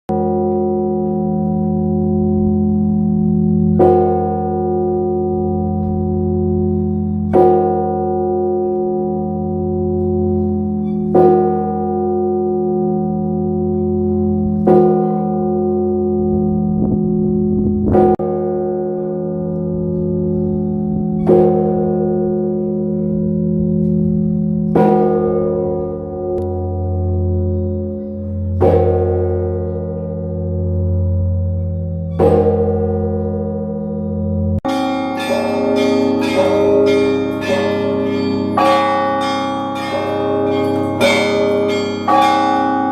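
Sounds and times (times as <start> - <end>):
large church bell tolling: 0.1 - 42.9.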